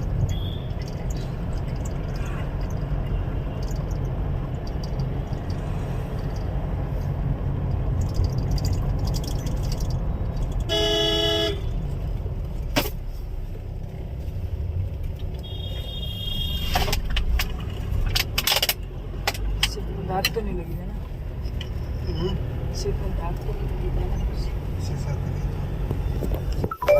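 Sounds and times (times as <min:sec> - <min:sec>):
vehicle rumbling in motion: 0:00.0 - 0:26.9.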